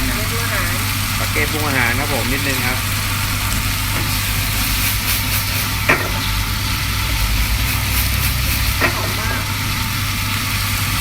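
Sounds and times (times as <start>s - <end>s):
steady low hum: 0.0s - 11.0s
vegetables sizzling in a pan: 0.0s - 11.0s.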